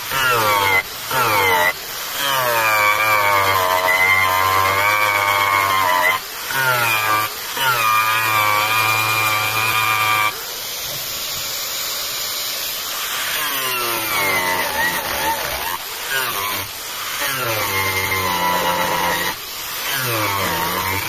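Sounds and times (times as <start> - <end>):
angle grinder whining: 0.0 - 11.5, 12.7 - 21.0
hissing abrasion on wood: 0.0 - 21.0.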